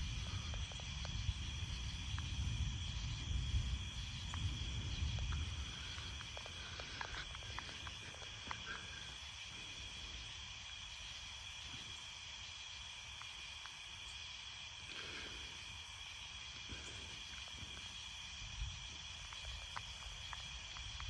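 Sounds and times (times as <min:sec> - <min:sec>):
faint ticks: 0:00.0 - 0:21.0
night insects trilling: 0:00.0 - 0:21.0.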